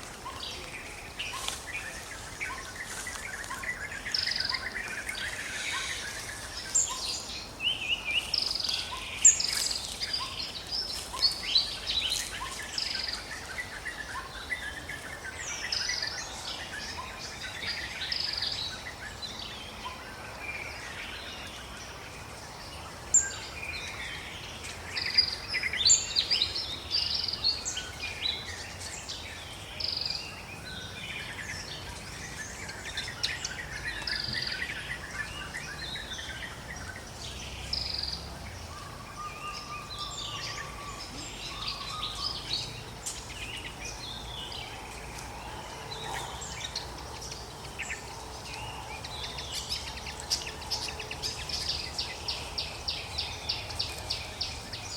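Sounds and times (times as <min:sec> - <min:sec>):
birds chirping and calling: 0:00.0 - 0:54.9.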